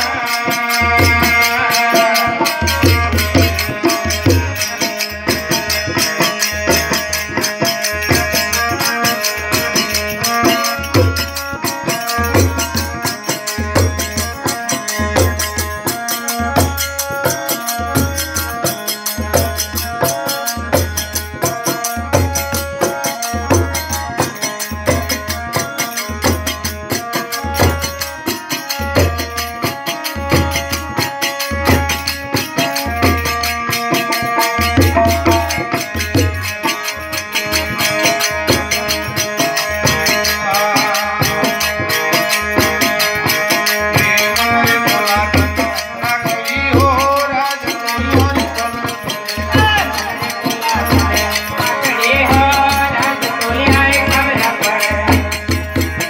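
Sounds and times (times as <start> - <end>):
hand drum rhythm: 0.0 - 56.0
harmonium playing held notes: 0.0 - 56.0.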